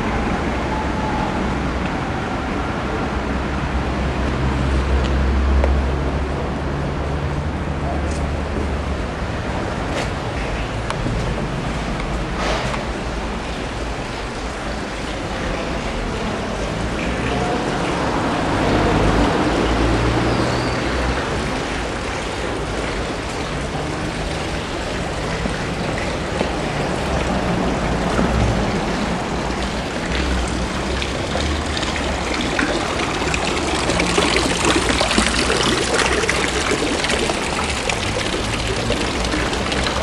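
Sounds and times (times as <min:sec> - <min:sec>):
fountain water splashing: 0:00.0 - 0:40.0.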